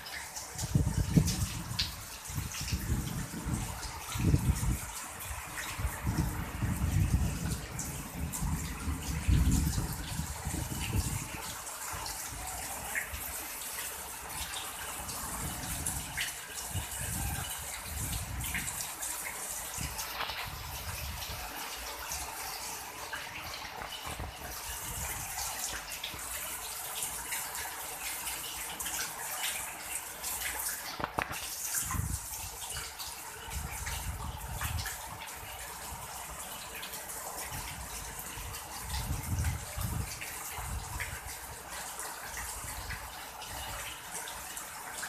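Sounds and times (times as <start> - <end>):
steady rain hiss: 0.0 - 45.0
water drips and splashes: 0.0 - 45.0.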